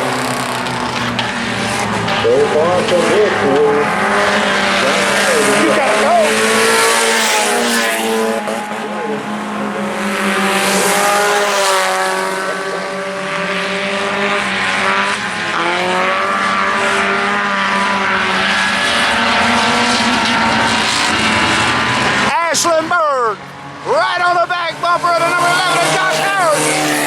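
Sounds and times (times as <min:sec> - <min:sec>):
race car engines at high revs: 0:00.0 - 0:27.0.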